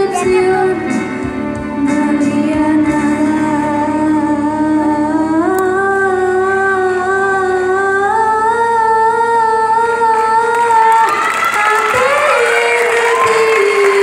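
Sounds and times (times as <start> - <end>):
girl singing into a microphone: 0.0 - 1.2, 1.8 - 14.0.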